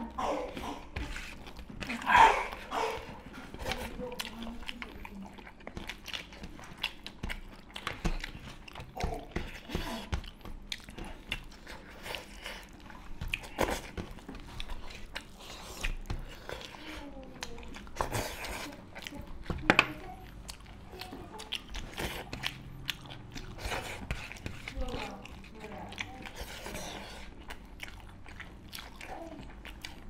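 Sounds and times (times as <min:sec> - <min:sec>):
chewing and mouth smacks: 0:00.4 - 0:30.0.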